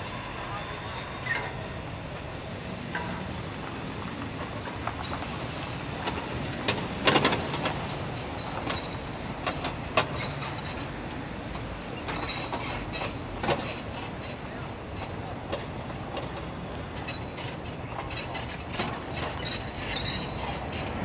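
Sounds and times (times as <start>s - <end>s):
freight train rumbling: 0.0s - 21.0s
train clanking: 0.0s - 21.0s.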